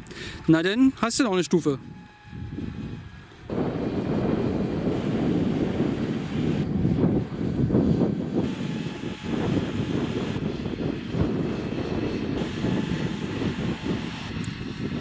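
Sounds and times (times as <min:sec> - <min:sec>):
model jet rushing noise: 0:00.4 - 0:15.0.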